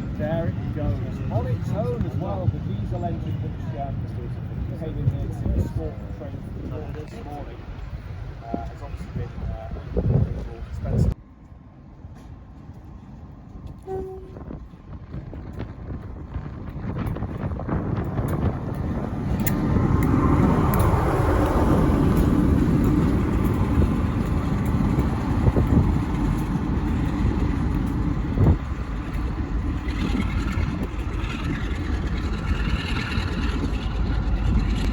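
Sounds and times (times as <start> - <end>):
diesel locomotive engine rumble: 0.0 - 34.9.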